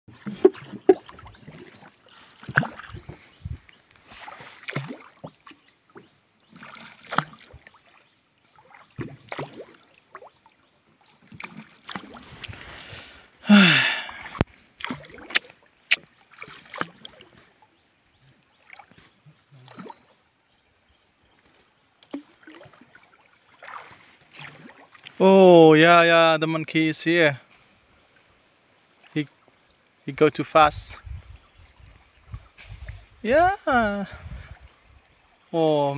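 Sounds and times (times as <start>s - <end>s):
paddles splashing through water: 0.1s - 26.1s, 30.8s - 35.9s.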